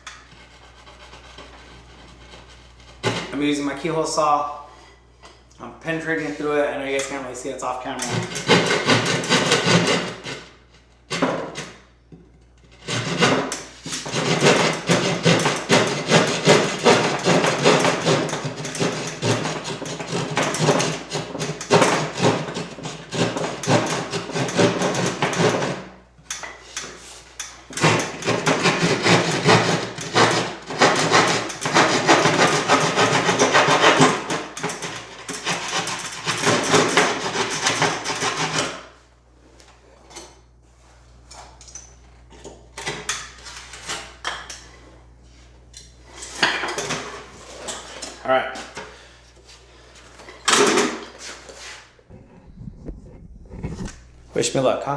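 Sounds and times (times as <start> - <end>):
saw rasping through drywall: 0.0 - 5.0, 5.9 - 39.1, 41.4 - 44.9, 45.9 - 54.6.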